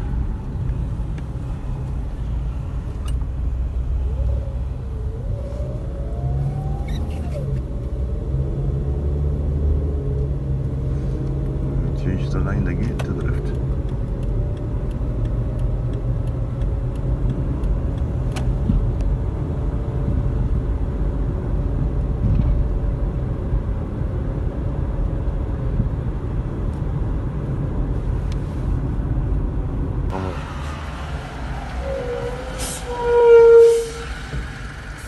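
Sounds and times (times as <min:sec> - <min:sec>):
car engine and road rumble: 0:00.0 - 0:35.0.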